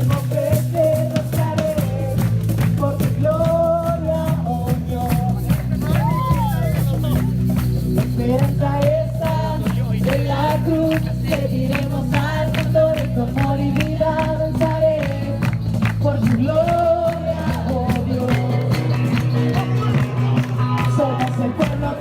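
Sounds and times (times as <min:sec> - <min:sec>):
song with beat and bass: 0:00.0 - 0:22.0.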